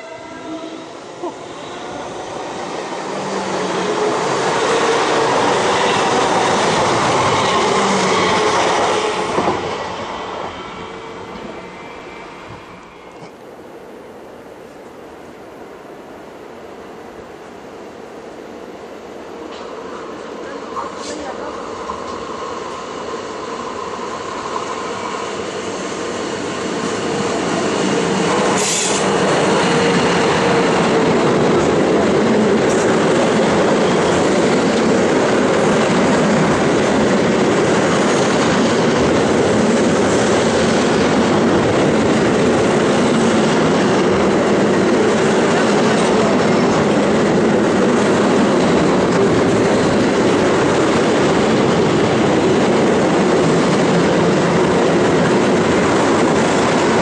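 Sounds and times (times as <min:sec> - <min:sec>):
train wheels rumbling on rails: 0:00.0 - 0:13.4, 0:19.4 - 0:57.0.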